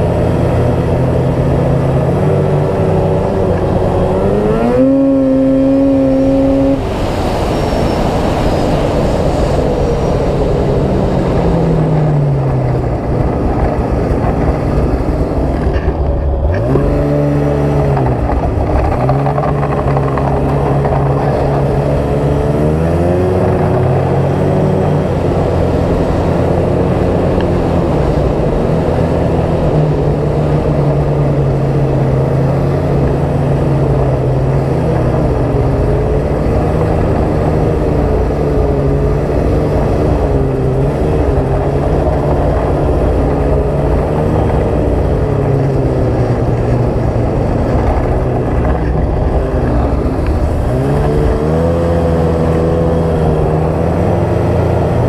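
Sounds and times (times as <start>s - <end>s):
snowmobile engine running: 0.0s - 55.0s
steady rush of noise: 0.0s - 55.0s.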